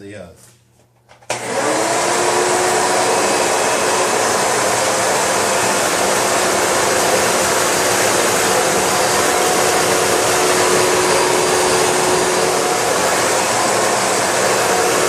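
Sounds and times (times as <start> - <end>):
vacuum cleaner running: 1.3 - 15.0.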